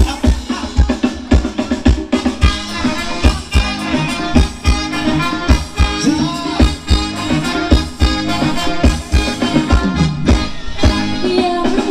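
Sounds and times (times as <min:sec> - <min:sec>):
dance band music over loudspeakers: 0:00.0 - 0:11.9
steady kick-drum beat: 0:00.0 - 0:11.9.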